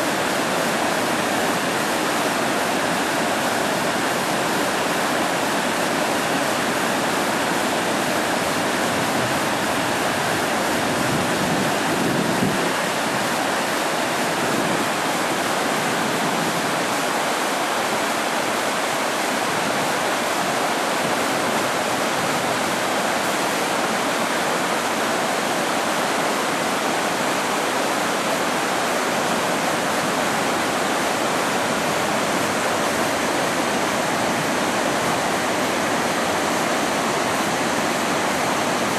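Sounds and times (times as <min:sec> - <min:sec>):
rapids and waterfall roaring: 0:00.0 - 0:38.9.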